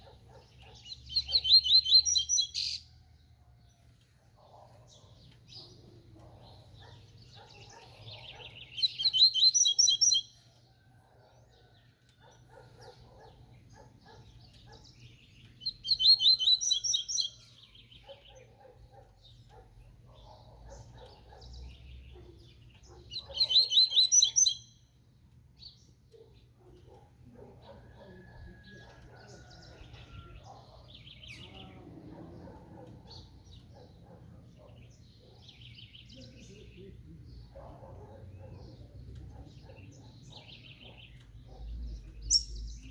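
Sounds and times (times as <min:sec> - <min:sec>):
bird chirping song: 0:00.0 - 0:42.9.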